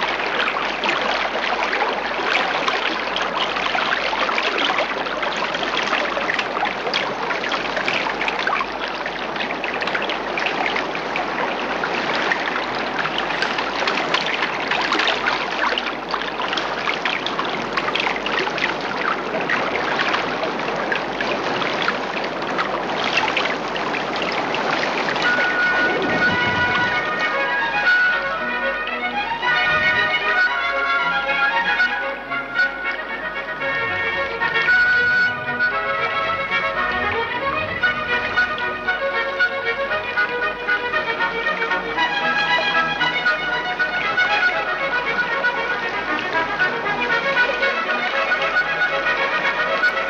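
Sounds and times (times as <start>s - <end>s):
running water babbling: 0.0s - 50.0s.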